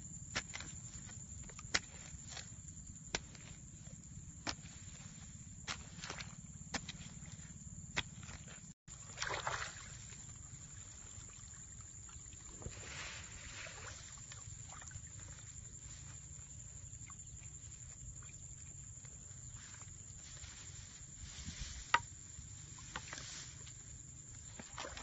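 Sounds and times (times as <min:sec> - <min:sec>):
rustling squelching mud: 0:00.3 - 0:25.0.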